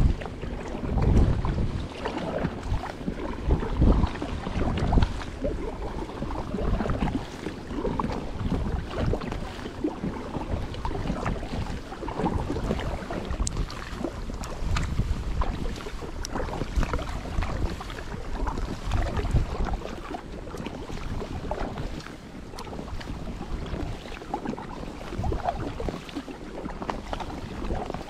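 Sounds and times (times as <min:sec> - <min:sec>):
water splashing around kayak: 0:00.0 - 0:28.0
wind rumble on microphone: 0:00.0 - 0:28.0.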